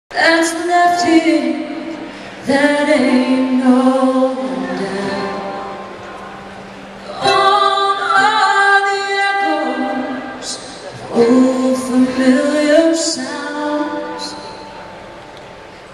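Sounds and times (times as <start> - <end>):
voices singing slow harmony: 0.2 - 6.1, 6.9 - 15.0.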